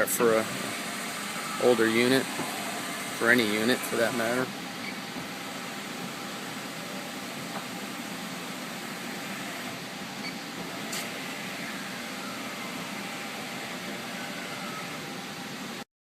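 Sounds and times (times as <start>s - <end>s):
machine humming: 0.0s - 15.8s.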